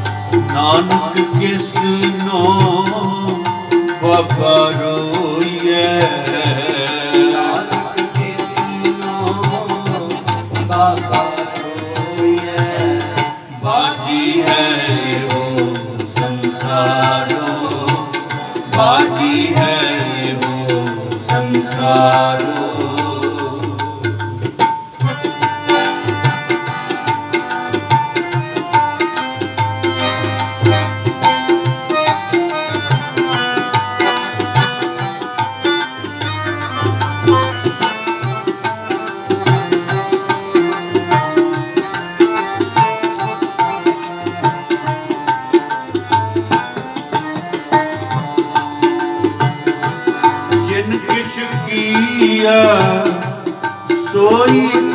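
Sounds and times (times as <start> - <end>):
sustained melodic accompaniment: 0.0 - 54.9
tabla playing quick rhythm: 0.0 - 54.9.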